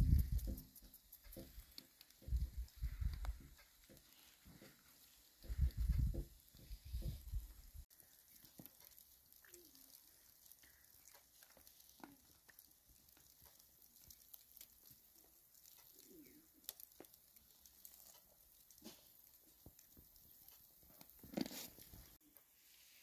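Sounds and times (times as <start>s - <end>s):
small pops: 0.0s - 22.2s
meat sizzling on charcoal grill: 0.0s - 23.0s.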